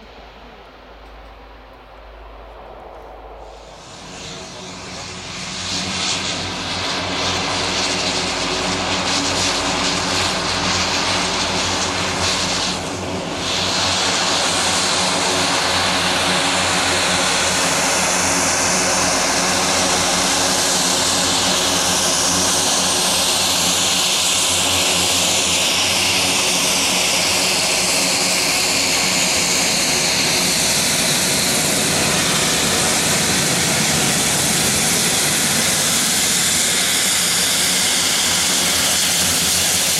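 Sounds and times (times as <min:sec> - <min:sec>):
propeller drone: 0:00.0 - 0:39.9
turbine whine: 0:00.0 - 0:39.9.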